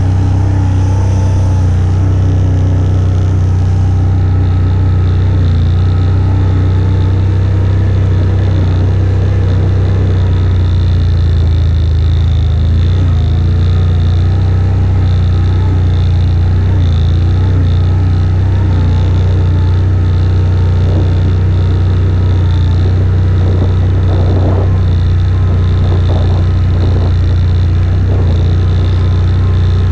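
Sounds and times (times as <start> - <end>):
atv engine droning: 0.0 - 29.9.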